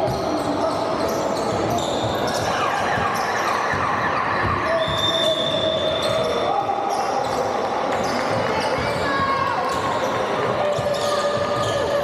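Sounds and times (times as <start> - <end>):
players' voices: 0.0 - 12.0
sneakers squeaking: 0.0 - 12.0.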